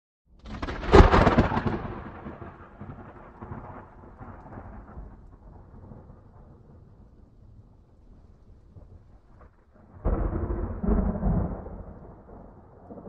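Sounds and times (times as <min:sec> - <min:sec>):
thunderclap and rumble: 0:00.3 - 0:13.0.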